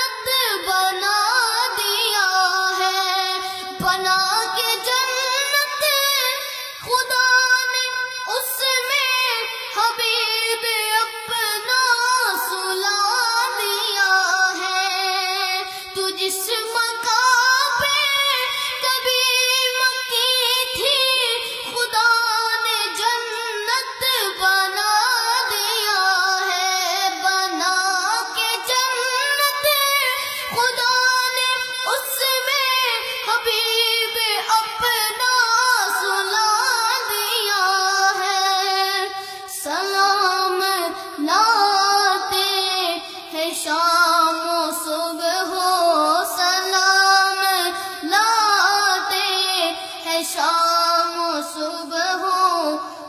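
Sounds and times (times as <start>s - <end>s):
boy singing solo: 0.0s - 53.0s.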